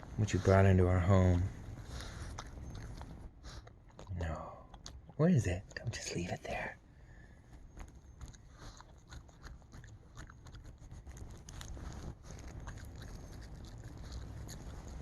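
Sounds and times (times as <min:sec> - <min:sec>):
dog chewing crunches: 0:00.0 - 0:06.7, 0:07.5 - 0:15.0.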